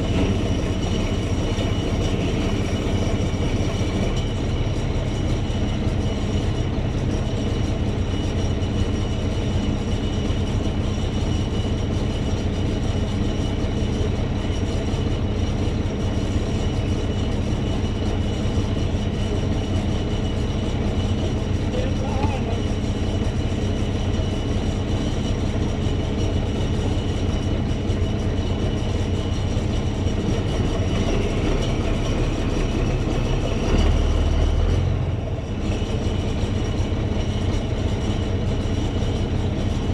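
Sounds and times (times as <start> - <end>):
heavy vehicle engine rumbling: 0.0 - 39.9.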